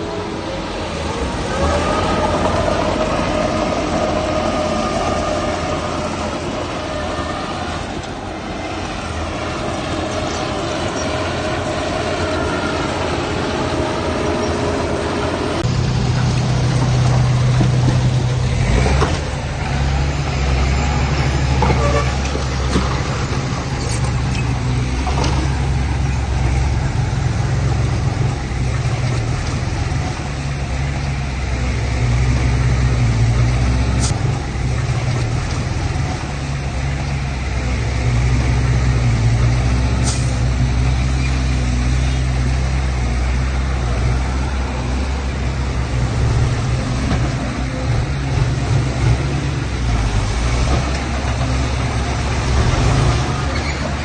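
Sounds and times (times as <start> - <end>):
deep engine drone: 0.0 - 54.0
diesel engines whining: 0.0 - 54.0.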